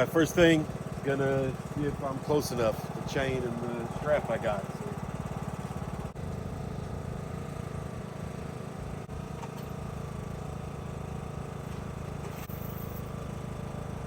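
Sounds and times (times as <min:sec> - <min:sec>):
riding lawnmower engine running: 0:00.0 - 0:14.0.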